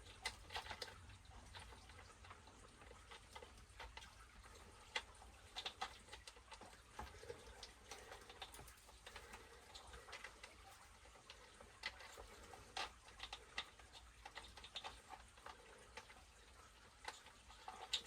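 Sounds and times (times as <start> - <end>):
small parts and tools clicking: 0.0 - 18.0.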